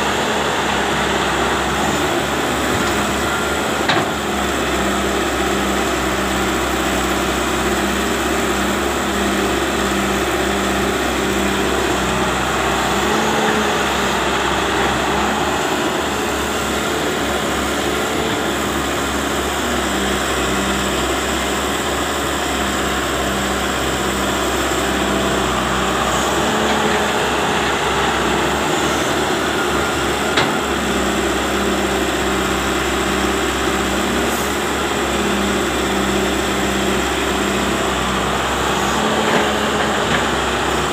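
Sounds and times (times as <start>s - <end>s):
diesel excavator engine: 0.0s - 40.9s.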